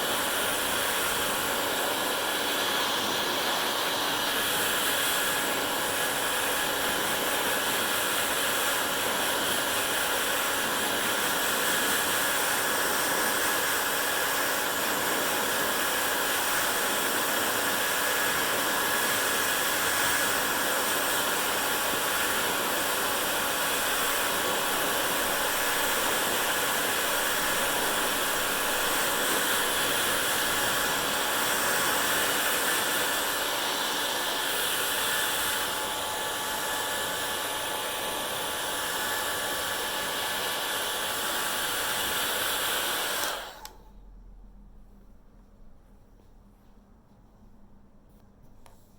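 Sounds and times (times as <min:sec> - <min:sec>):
hair dryer running: 0:00.0 - 0:44.0.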